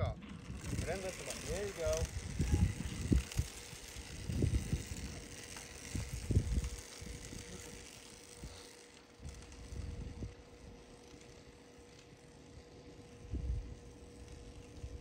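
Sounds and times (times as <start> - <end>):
wind buffeting microphone: 0.0 - 11.0, 13.1 - 15.0
electric dirt bike whirring: 0.0 - 15.0.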